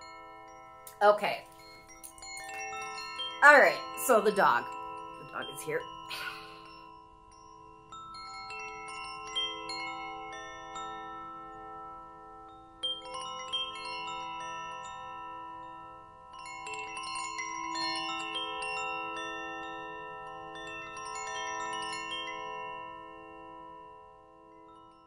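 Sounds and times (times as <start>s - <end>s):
wind chimes ringing: 0.0s - 25.0s.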